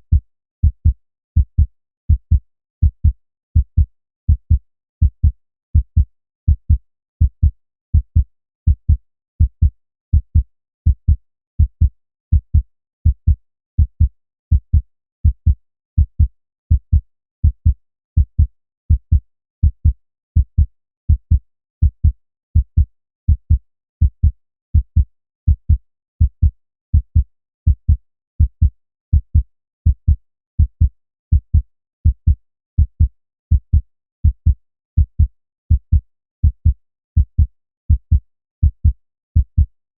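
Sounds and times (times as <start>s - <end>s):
human heartbeat: 0.0s - 39.7s.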